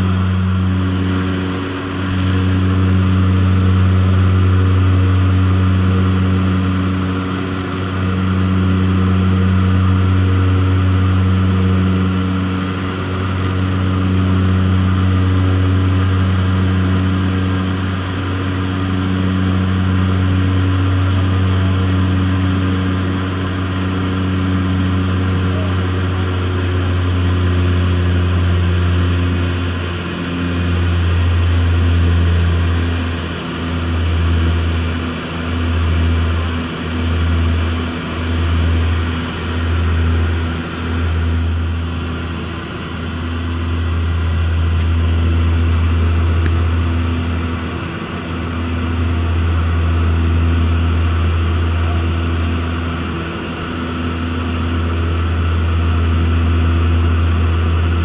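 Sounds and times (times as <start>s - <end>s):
plane engine and propeller drone: 0.0s - 58.0s.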